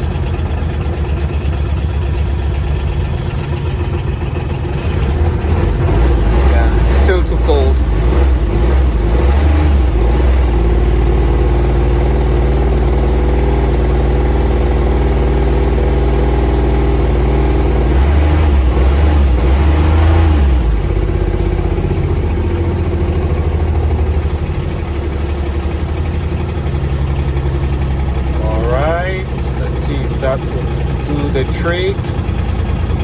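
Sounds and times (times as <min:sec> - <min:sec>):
small diesel engine running: 0:00.0 - 0:33.0.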